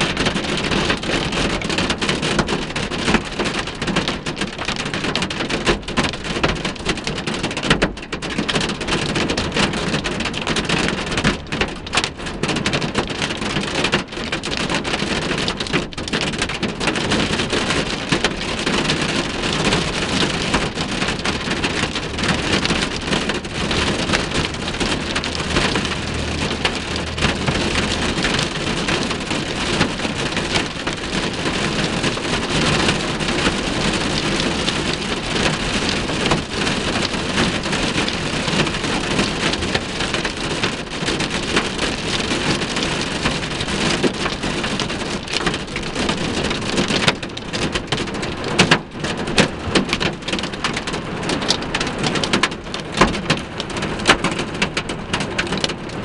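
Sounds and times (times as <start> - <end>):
hail and rain on a vehicle: 0.0 - 56.0
sharp hail hits: 0.1 - 56.0.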